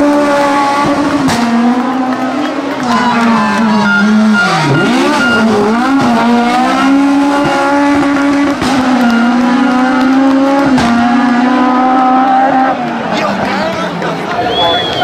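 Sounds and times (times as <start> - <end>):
car engine accelerating hard: 0.0 - 14.4.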